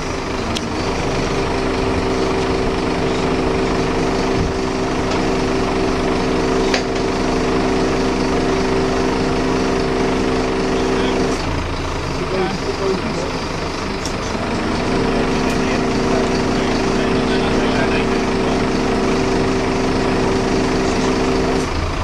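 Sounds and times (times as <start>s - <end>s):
small engine humming: 0.0s - 22.0s.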